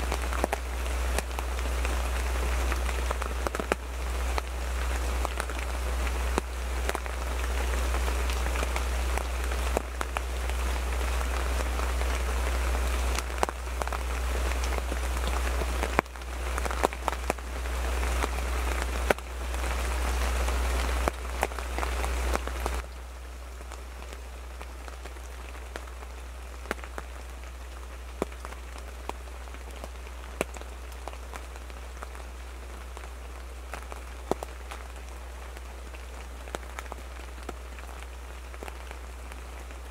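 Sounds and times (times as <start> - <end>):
rain pattering on fabric: 0.0 - 39.9.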